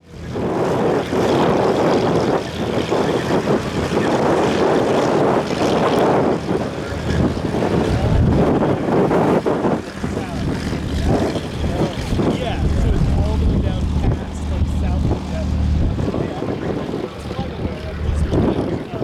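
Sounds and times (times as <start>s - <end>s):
propeller airplane engine: 0.0s - 19.0s
wind on microphone: 0.0s - 19.0s.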